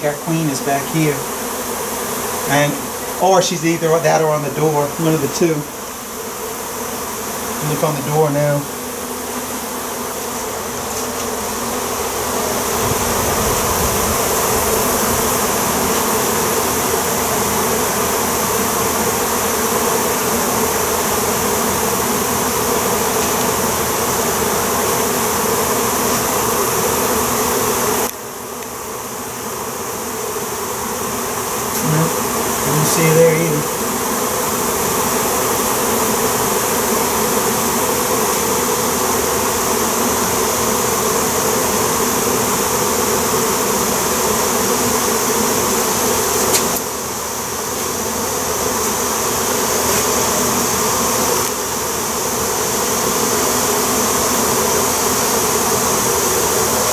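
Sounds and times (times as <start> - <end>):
bee swarm buzzing: 0.0 - 56.9.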